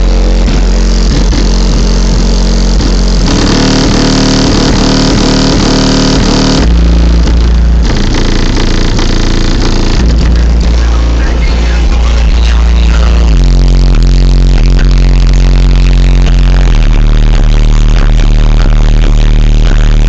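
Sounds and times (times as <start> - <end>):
loud bass-heavy music: 0.0 - 20.0.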